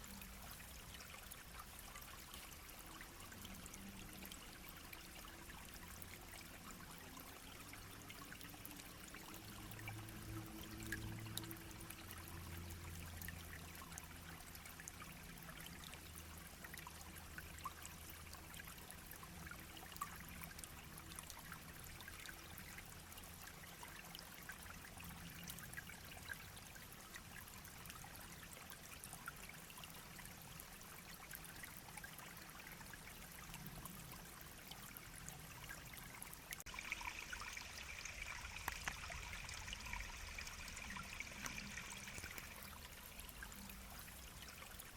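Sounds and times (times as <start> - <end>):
brook babbling: 0.0 - 44.9.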